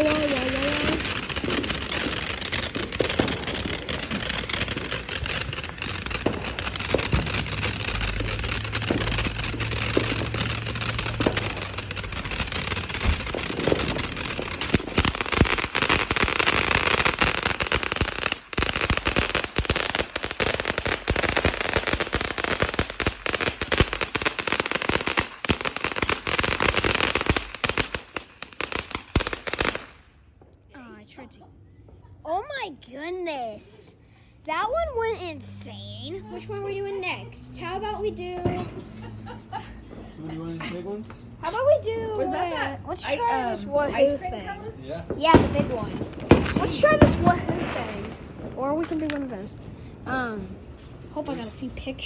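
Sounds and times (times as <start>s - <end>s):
firework crackling and popping: 0.0s - 30.2s, 34.6s - 52.0s.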